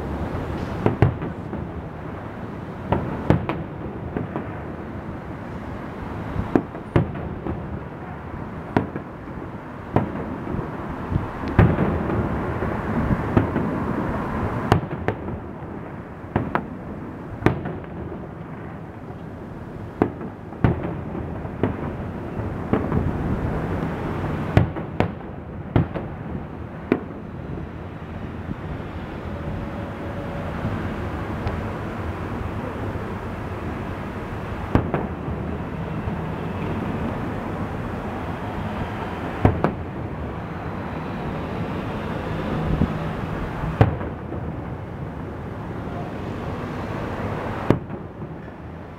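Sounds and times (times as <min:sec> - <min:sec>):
steady background rumble: 0:00.0 - 0:48.9.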